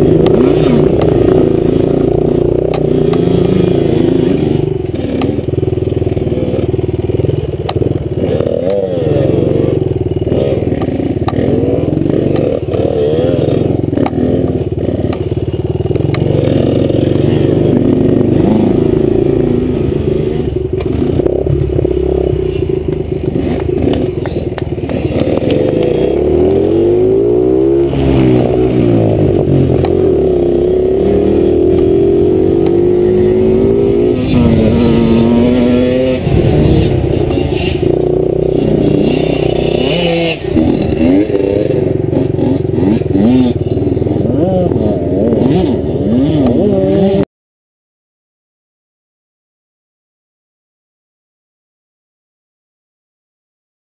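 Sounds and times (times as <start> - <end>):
dirt bike engine revving: 0.0 - 47.3.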